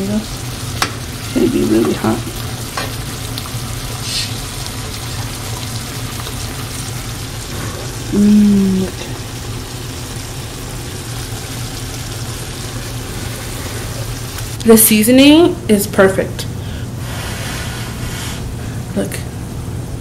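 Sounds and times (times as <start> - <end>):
pan sizzling: 0.0 - 19.0.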